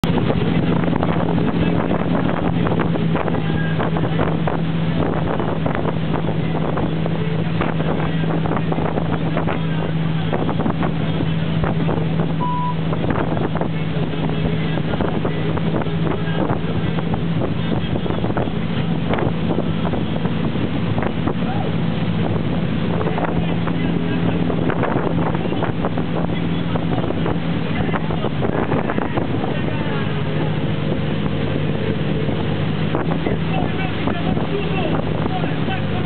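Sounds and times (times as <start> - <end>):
boat engine humming: 0.0 - 36.0
water rushing: 0.0 - 36.0
wind buffeting microphone: 0.0 - 36.0.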